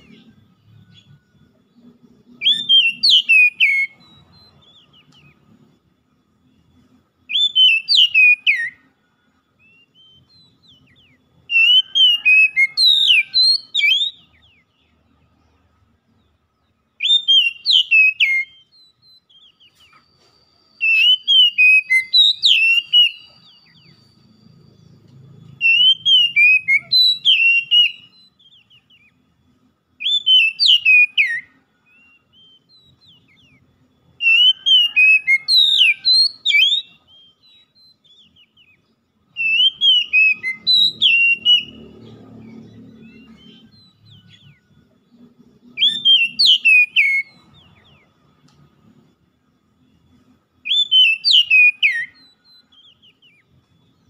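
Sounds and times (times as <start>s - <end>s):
bird singing whistled phrases: 0.0s - 5.6s, 6.4s - 15.0s, 17.0s - 20.1s, 20.7s - 29.2s, 30.0s - 48.3s, 49.8s - 54.0s.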